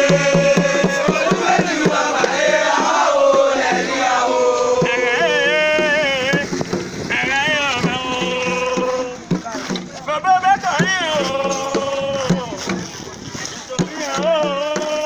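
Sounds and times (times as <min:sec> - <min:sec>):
percussion beats: 0:00.0 - 0:15.0
voices singing a chant: 0:00.0 - 0:15.0.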